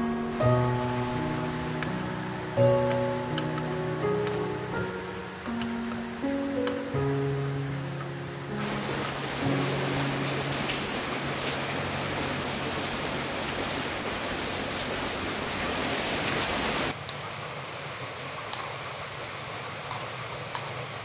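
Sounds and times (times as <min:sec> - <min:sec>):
rain falling on plants: 0:00.0 - 0:21.0.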